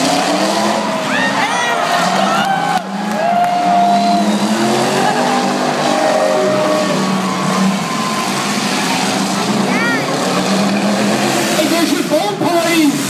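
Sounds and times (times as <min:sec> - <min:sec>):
distant race car engines revving: 0:00.0 - 0:13.0.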